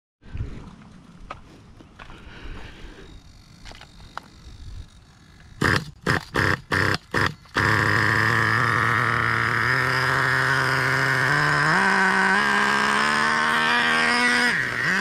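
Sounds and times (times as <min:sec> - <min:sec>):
small nitro engine starting and running: 0:02.5 - 0:15.0.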